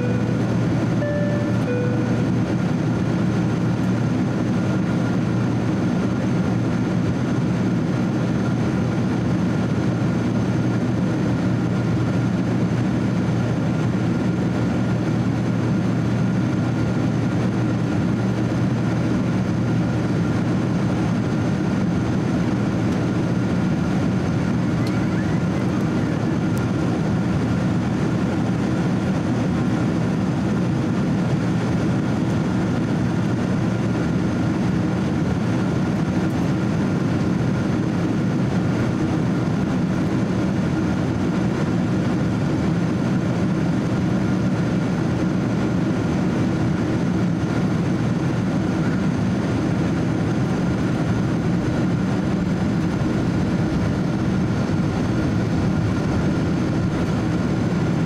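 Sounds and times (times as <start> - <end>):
airliner cabin drone: 0.0 - 58.0
high engine whine: 0.0 - 58.0.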